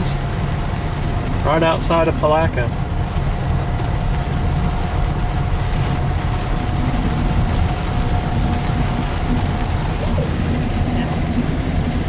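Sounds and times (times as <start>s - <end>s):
car driving on wet pavement: 0.0s - 12.0s.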